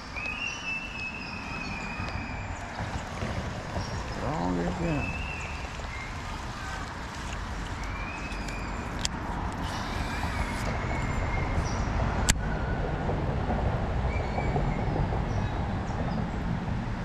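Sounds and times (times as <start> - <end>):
rushing noise with low rumble: 1.2 - 17.0.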